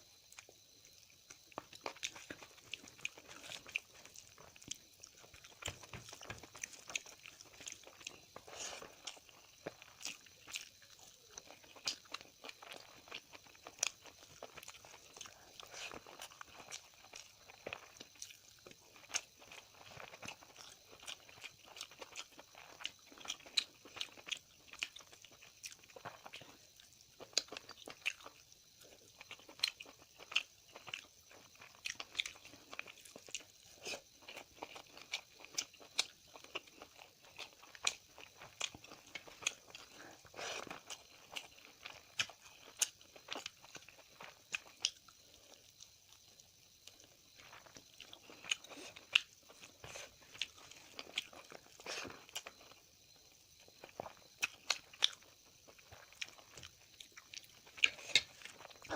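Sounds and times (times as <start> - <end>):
person chewing and crunching: 0.2 - 58.9.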